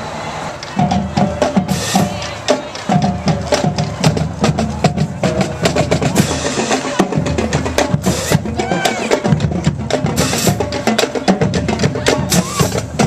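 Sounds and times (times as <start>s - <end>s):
marching band playing: 0.0s - 13.0s
drums beating sharp hits: 0.6s - 13.0s.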